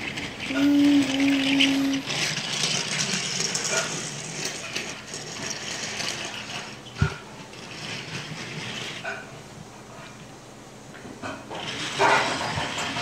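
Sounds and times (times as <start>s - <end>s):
toy train cars rattling on plastic track: 0.0s - 9.4s, 11.2s - 13.0s.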